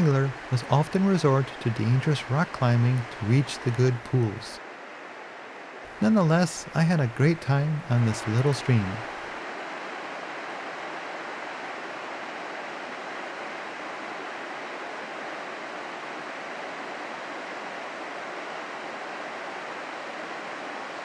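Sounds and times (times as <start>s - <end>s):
creek rushing over boulders: 0.0s - 21.0s.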